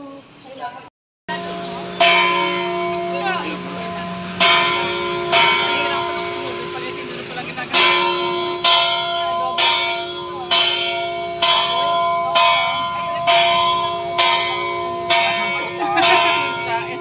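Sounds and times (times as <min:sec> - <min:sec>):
church bell tolling: 0:01.3 - 0:17.0.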